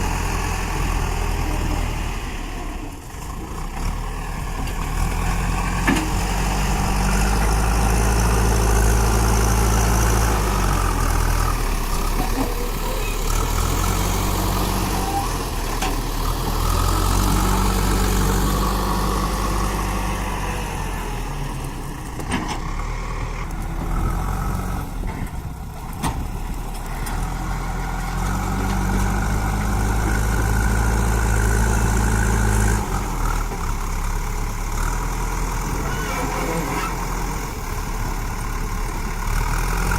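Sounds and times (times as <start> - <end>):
diesel engine working under load: 0.0 - 39.9.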